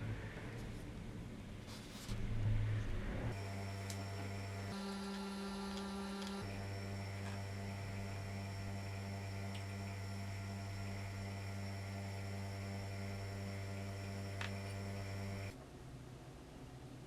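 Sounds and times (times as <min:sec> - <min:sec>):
low electrical hum pulsing: 0:00.0 - 0:17.0.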